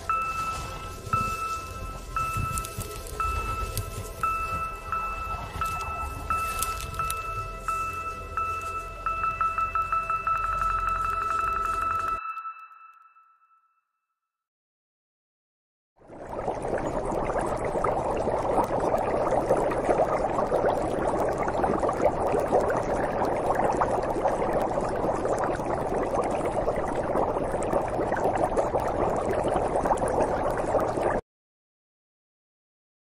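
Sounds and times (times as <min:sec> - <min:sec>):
dense crackling noise: 0:00.0 - 0:12.2, 0:16.0 - 0:31.2.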